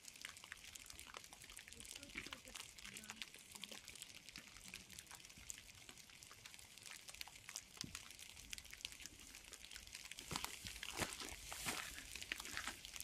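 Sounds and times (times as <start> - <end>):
raindrops ticking on leaves: 0.0 - 13.0
soft rain hiss: 0.0 - 13.0.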